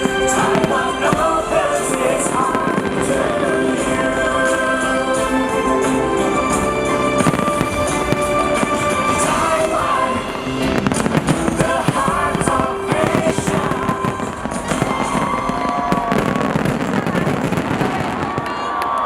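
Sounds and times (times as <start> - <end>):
music from loudspeakers: 0.0 - 17.8
fireworks bursting and crackling: 0.0 - 19.0.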